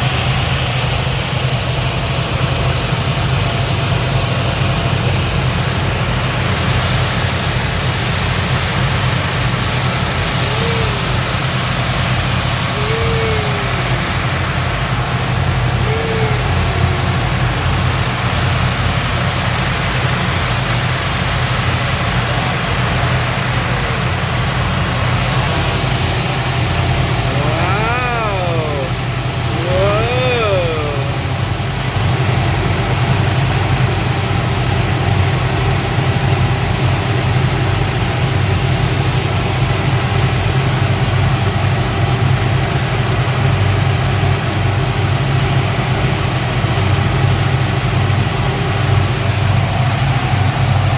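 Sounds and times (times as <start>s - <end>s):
speedboat engines droning: 0.0s - 50.9s.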